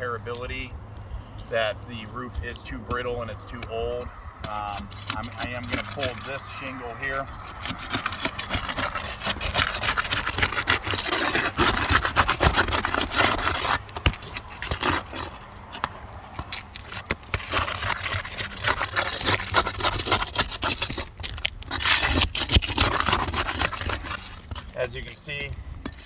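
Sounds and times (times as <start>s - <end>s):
roof shingle scraping: 0.0s - 26.0s.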